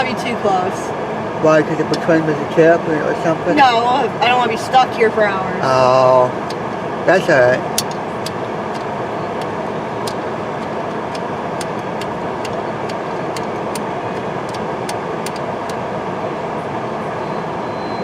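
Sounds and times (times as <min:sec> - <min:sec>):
car engine and blower running: 0:00.0 - 0:17.9.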